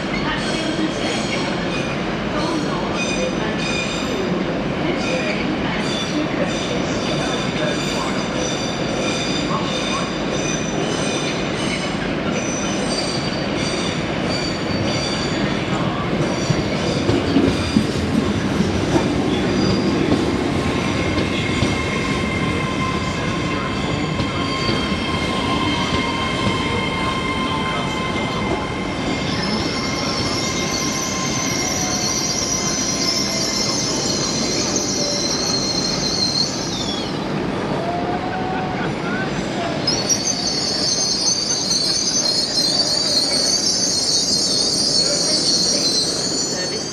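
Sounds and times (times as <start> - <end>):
train wheels squealing on rails: 0.0 - 46.9.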